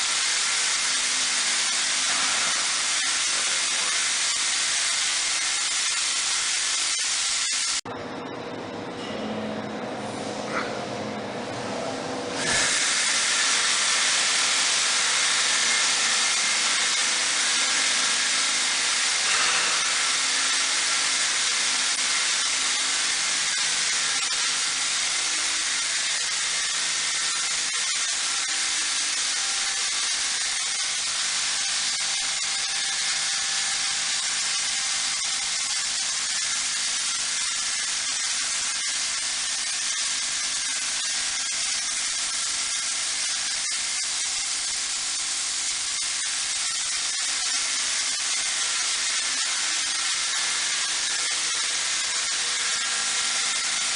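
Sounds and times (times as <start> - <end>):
sprayer hissing: 0.0 - 7.8, 12.4 - 53.9.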